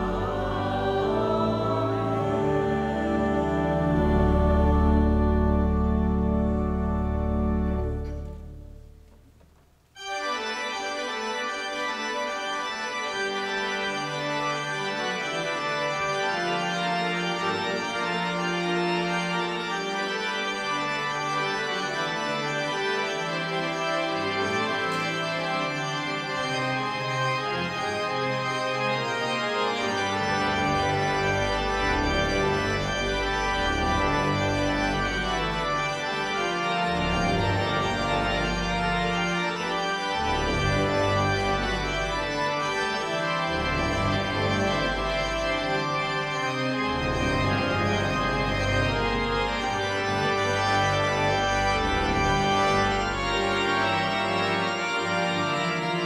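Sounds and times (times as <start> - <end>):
organ playing sustained chords: 0.0 - 9.2, 10.0 - 56.0
deep organ pedal bass: 0.0 - 9.4, 13.5 - 56.0.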